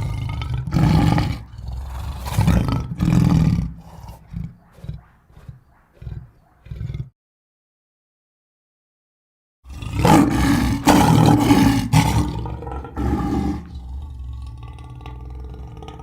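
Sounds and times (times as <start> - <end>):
lion roaring: 0.0 - 7.1, 9.7 - 16.0
low lion grunting: 0.0 - 7.2, 9.7 - 16.0.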